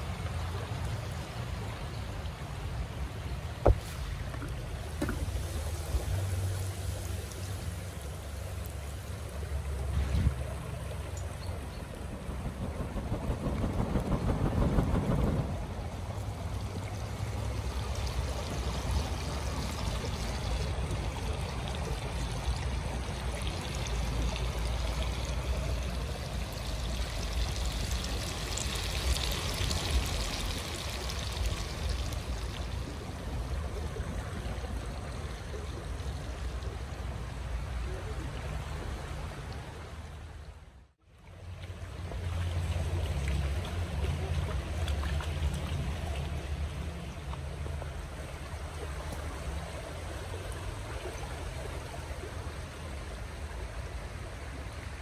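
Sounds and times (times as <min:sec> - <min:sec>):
shallow stream running: 0:00.0 - 0:55.0.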